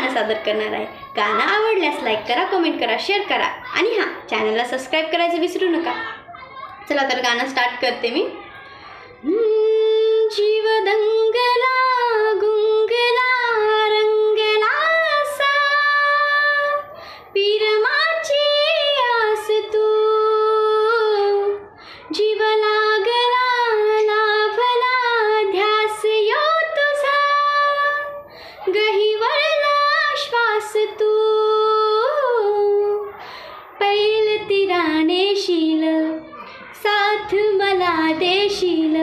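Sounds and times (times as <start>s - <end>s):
woman singing unaccompanied: 0.0s - 3.5s, 9.2s - 39.0s.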